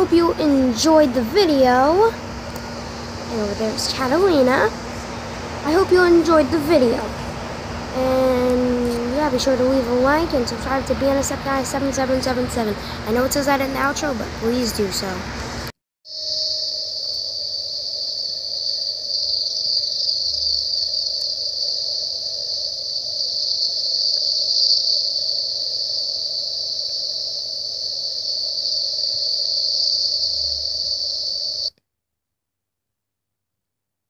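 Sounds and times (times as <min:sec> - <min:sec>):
insects chirring: 0:00.0 - 0:15.2, 0:16.1 - 0:31.8.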